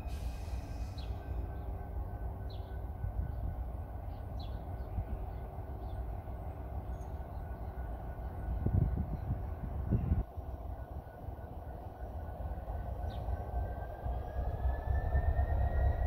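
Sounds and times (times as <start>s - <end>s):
locomotive low rumble: 0.0s - 16.0s.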